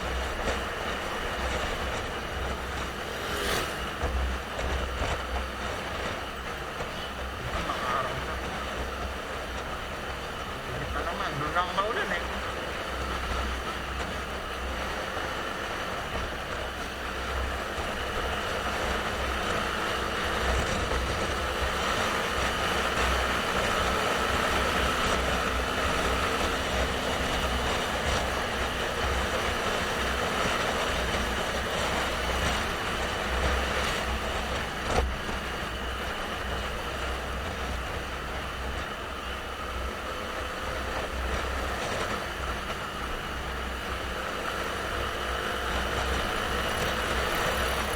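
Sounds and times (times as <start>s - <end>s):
motorcycle engine running: 0.0s - 11.6s, 12.2s - 47.9s
wind and road noise: 0.0s - 47.9s.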